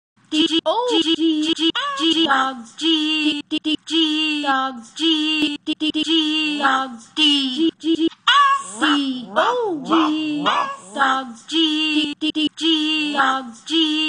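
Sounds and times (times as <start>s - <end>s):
child singing through autotune: 0.4s - 14.0s.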